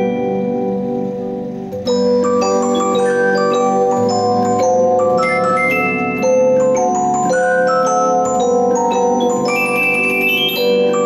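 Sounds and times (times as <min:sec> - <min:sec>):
music box bell-like notes: 0:00.0 - 0:11.0.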